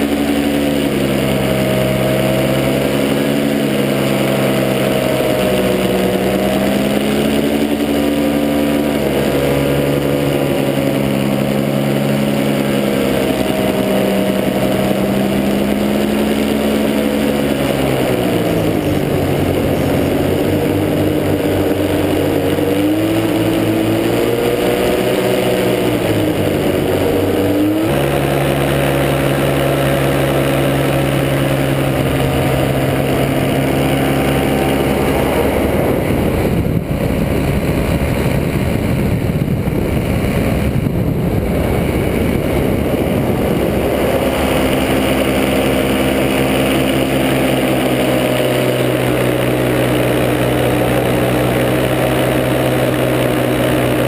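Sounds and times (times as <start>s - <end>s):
paramotor engine and propeller: 0.0s - 54.0s
wind rush: 0.0s - 54.0s.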